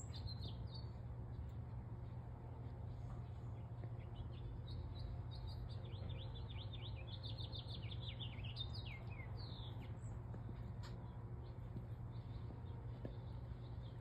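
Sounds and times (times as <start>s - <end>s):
songbird chirping: 0.0s - 14.0s
steady low hum: 0.0s - 14.0s.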